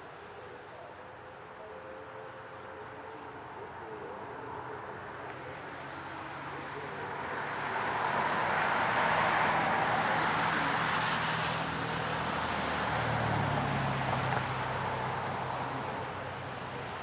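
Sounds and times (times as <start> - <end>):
vehicle passing with road noise: 0.0 - 17.0.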